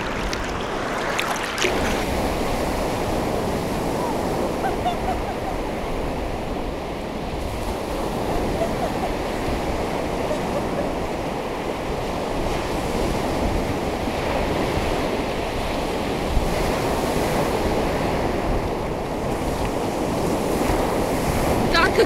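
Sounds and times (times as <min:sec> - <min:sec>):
surf breaking on beach: 0:00.0 - 0:18.6
wind buffeting microphone: 0:00.0 - 0:22.0.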